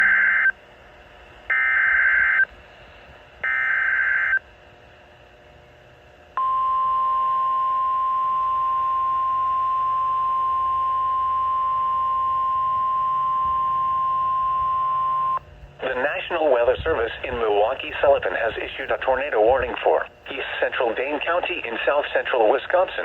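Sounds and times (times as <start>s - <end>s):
steady warning alarm tone: 0.0s - 0.6s, 1.5s - 2.6s, 3.4s - 4.5s, 6.4s - 22.9s.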